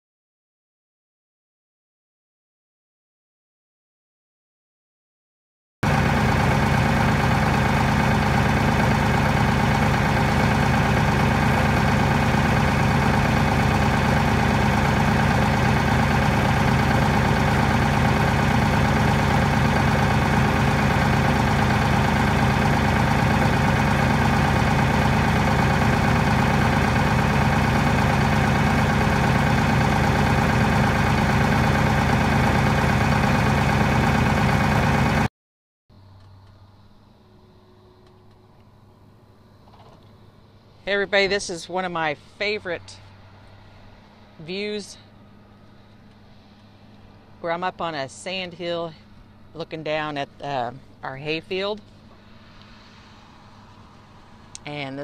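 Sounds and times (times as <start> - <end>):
tractor engine running: 5.8 - 35.3, 36.0 - 55.0.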